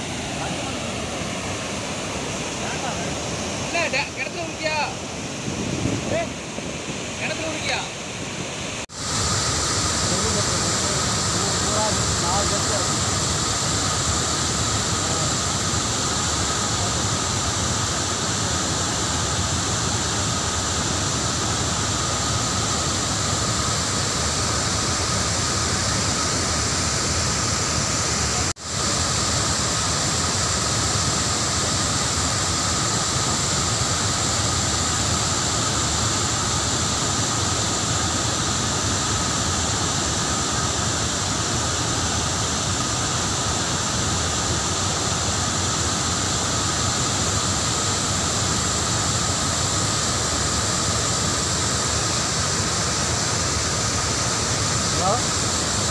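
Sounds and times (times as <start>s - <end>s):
water rushing down a spillway: 0.0s - 55.9s.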